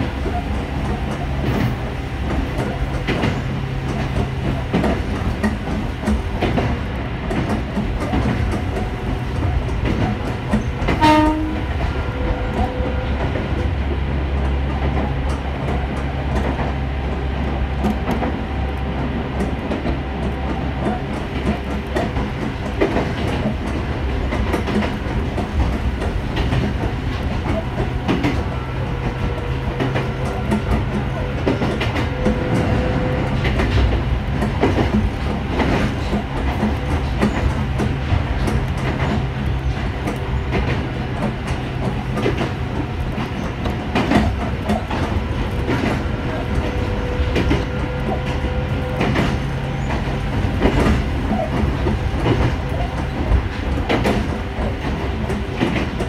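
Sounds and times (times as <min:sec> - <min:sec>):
wheels clacking over rail joints: 0:00.0 - 0:56.0.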